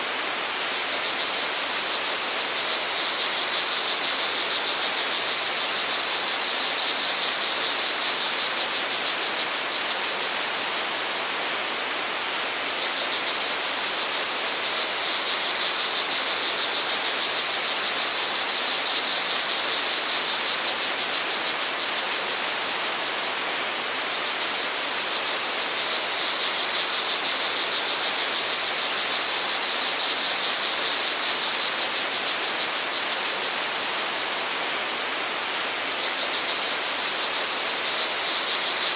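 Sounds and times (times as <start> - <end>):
stream water rushing: 0.0 - 38.9
crickets chirping: 0.1 - 38.9.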